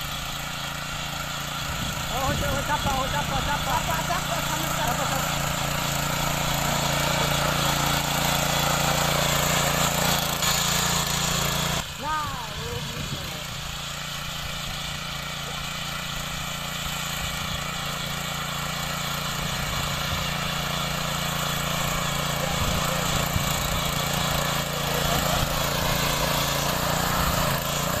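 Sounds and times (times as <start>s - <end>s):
power tiller engine running: 0.0s - 28.0s
tines working dry soil: 0.0s - 28.0s.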